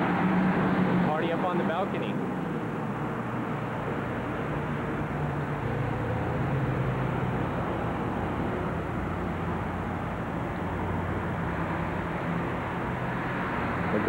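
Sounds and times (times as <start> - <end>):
car engine hum: 0.0 - 14.0
road noise: 0.0 - 14.0.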